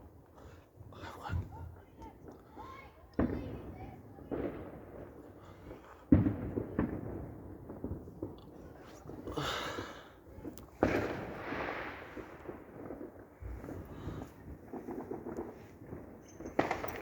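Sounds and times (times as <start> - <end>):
fireworks bangs: 1.3 - 17.0.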